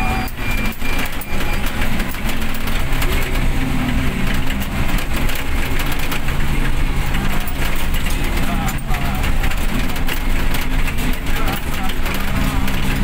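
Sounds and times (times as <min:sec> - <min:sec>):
vehicle engine hum: 0:00.0 - 0:13.0
wet tyres on road: 0:00.1 - 0:13.0.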